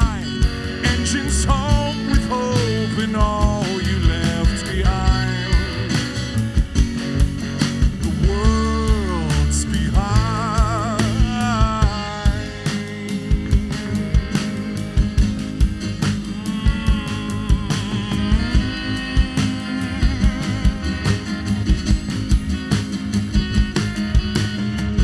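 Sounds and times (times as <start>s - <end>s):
drum kit beat: 0.0s - 25.0s
guitar line bending in pitch: 0.0s - 25.0s
upright bass: 0.0s - 25.0s.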